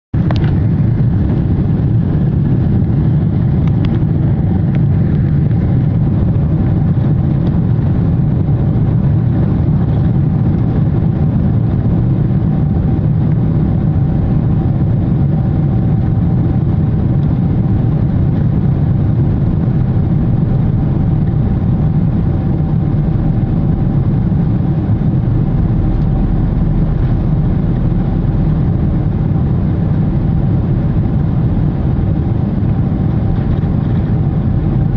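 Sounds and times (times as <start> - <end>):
aircraft engine rumble: 0.1 - 34.9
faint steady whine: 0.2 - 34.9.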